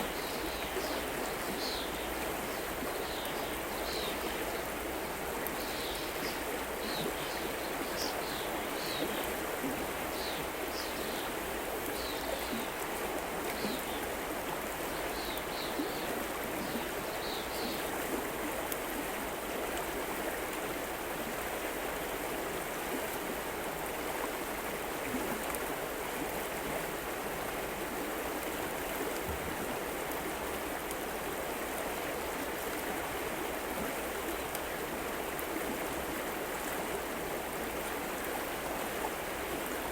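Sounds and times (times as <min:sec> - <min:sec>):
river water over rocks: 0:00.0 - 0:39.9.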